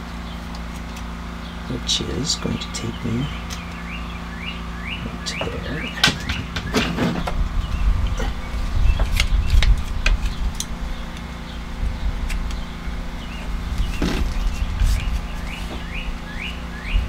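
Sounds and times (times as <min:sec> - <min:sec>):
bird chirps: 0:00.2 - 0:17.0
low rumble: 0:01.5 - 0:17.0.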